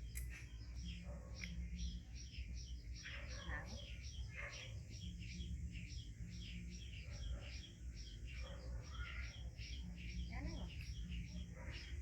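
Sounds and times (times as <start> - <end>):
birds chirping: 0.0 - 12.0
low constant hum: 0.0 - 12.0.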